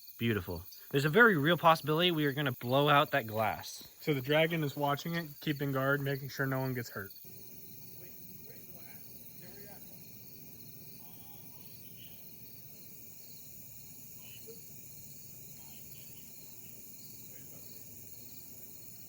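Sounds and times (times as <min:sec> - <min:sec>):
faint background noise: 0:00.0 - 0:19.0
insects chirping: 0:00.0 - 0:19.0.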